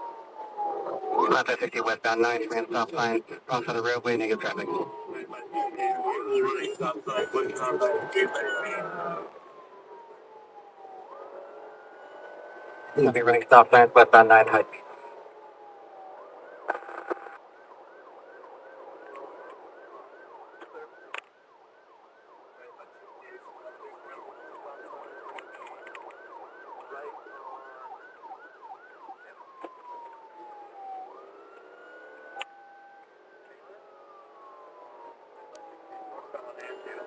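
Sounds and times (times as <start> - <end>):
police siren: 0.0 - 37.0.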